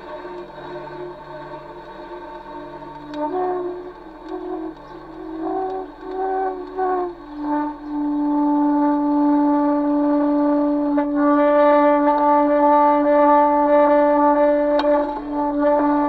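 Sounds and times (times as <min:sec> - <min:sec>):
low horn-like drone: 0:00.0 - 0:16.0.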